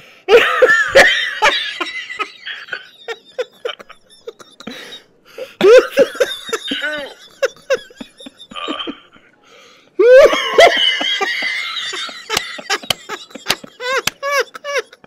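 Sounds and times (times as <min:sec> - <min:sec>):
people laughing: 0:00.3 - 0:09.4, 0:10.0 - 0:15.0.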